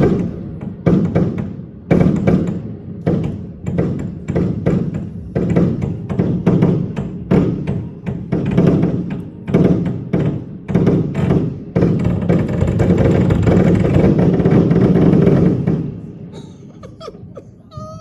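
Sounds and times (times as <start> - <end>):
fireworks booming shots: 0.0 - 17.4
rapid fireworks barrage: 0.0 - 18.0.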